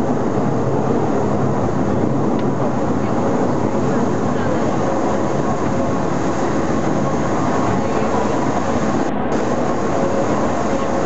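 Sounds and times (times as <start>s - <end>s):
railcar wheels rumbling: 0.0s - 11.0s.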